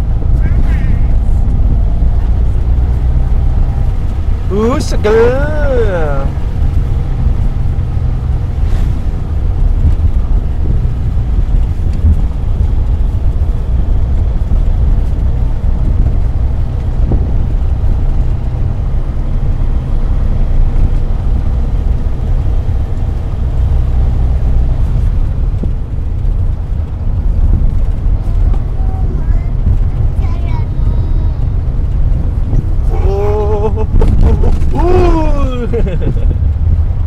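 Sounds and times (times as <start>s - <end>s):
deep engine drone: 0.0s - 37.0s
road noise: 0.0s - 37.0s.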